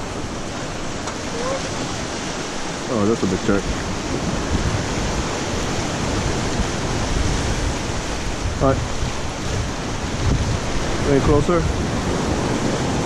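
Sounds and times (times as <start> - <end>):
rushing water current: 0.0 - 13.0.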